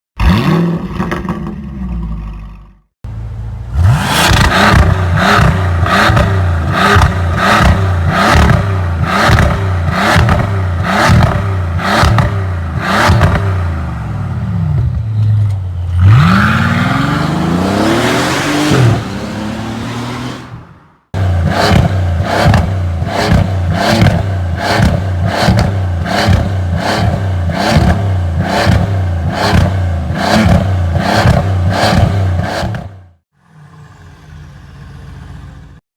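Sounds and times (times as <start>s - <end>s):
car engine revving: 3.6s - 35.6s.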